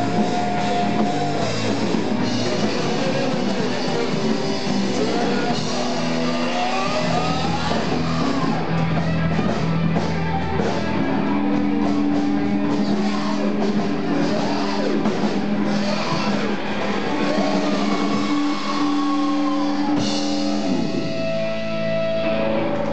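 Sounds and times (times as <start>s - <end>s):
bending electric guitar lead: 0.0s - 22.9s
rock band jamming: 0.0s - 22.9s.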